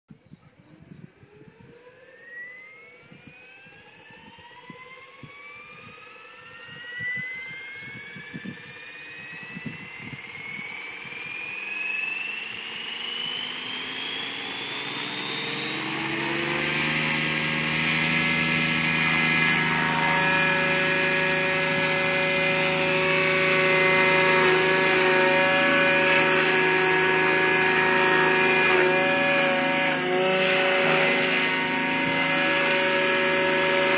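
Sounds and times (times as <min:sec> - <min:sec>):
rc helicopter motor whine: 0:00.1 - 0:33.9.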